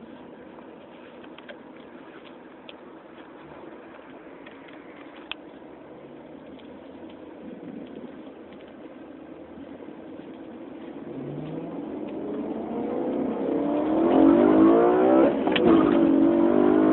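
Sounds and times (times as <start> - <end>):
car engine and exhaust accelerating: 0.0 - 16.9.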